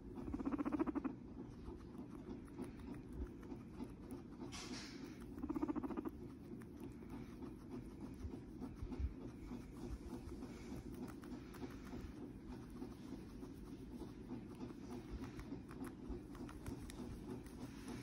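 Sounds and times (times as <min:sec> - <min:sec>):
guinea pig chewing: 0:00.0 - 0:18.0.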